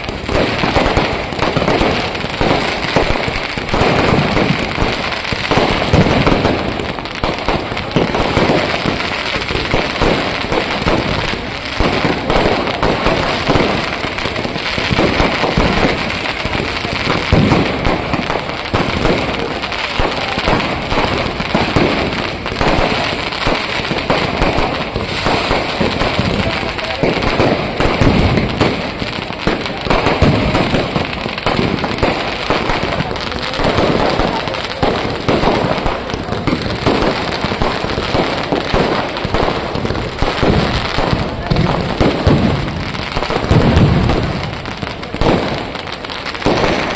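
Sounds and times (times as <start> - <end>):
fireworks barrage of bangs: 0.0 - 46.9.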